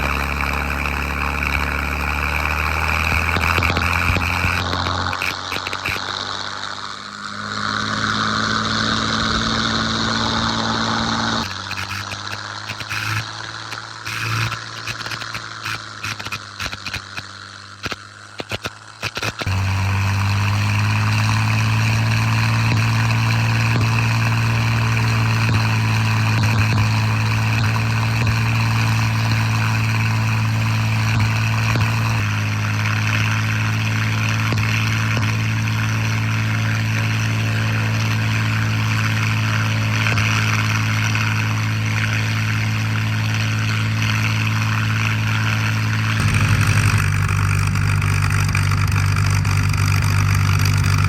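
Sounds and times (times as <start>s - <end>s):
aircraft engine running: 0.0s - 51.0s.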